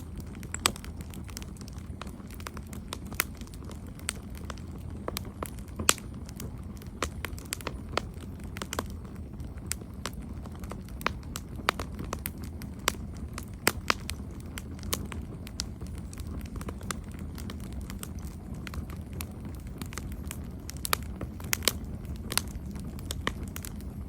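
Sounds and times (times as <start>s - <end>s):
low rumble of flames: 0.0s - 24.0s
wood crackling and popping: 0.0s - 24.0s.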